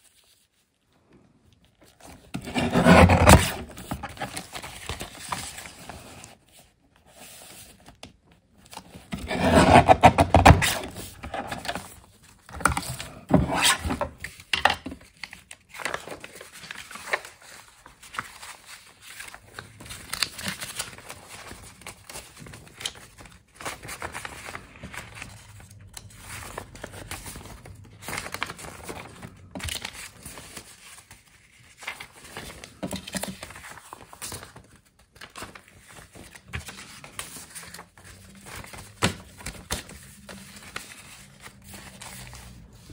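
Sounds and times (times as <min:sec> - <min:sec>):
paper rustling and crinkling: 0:00.0 - 0:42.9.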